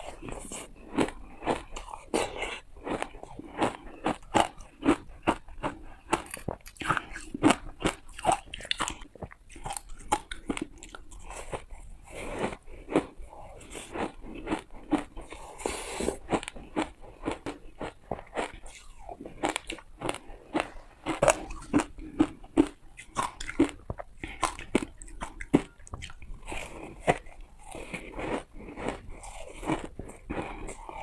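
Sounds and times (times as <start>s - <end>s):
teeth crunching ice: 0.0s - 11.8s, 12.4s - 31.0s
chewing: 0.0s - 31.0s.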